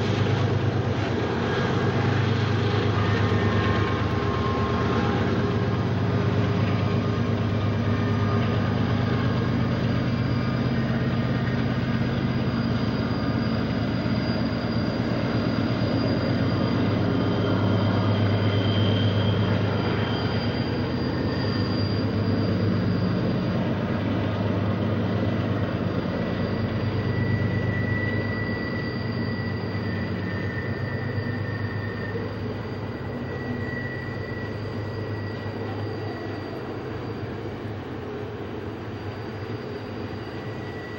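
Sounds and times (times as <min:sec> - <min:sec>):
deep locomotive engine drone: 0:00.0 - 0:40.9
high-pitched wheel squeals: 0:00.0 - 0:40.9.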